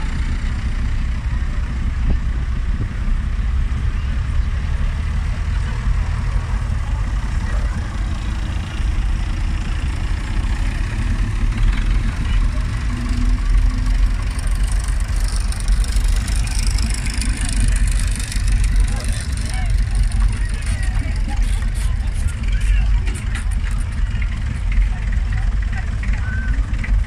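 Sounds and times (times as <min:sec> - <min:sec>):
tractor engines rumbling: 0:00.0 - 0:27.0.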